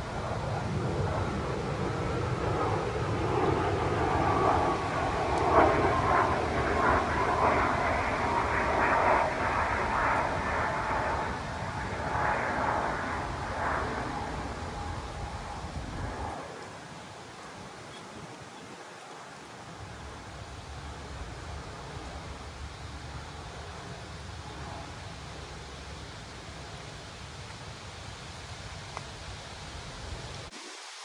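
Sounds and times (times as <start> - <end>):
distant aircraft engine drone: 0.0 - 30.5.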